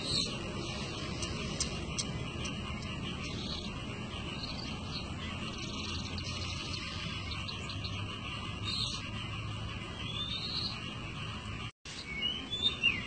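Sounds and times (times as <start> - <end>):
low background rumble: 0.0 - 11.7.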